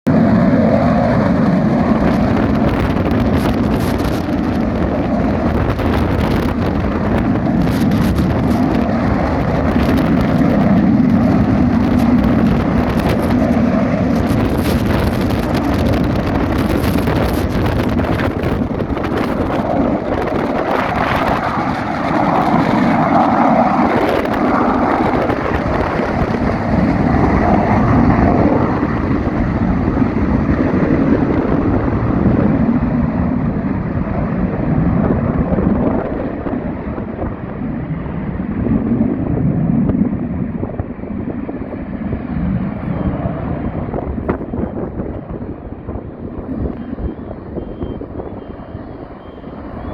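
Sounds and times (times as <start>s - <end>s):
jet engines roaring: 0.1s - 49.9s.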